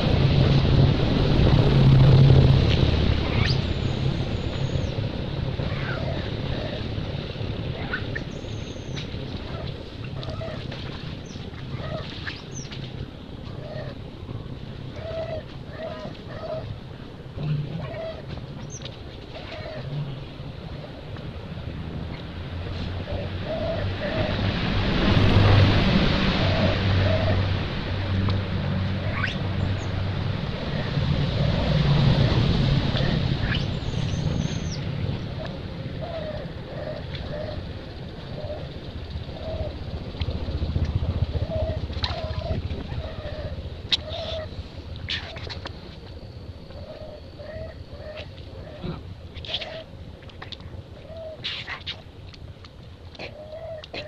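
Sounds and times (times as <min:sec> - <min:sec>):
low hum: 0:00.0 - 0:54.0
steady low rumble: 0:00.0 - 0:54.0
steady rushing noise: 0:00.0 - 0:54.0.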